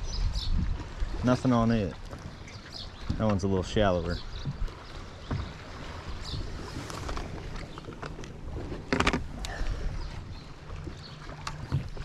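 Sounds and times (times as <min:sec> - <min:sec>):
wind on microphone: 0:00.0 - 0:03.4, 0:04.1 - 0:10.4
water lapping against boat hull: 0:00.0 - 0:12.0.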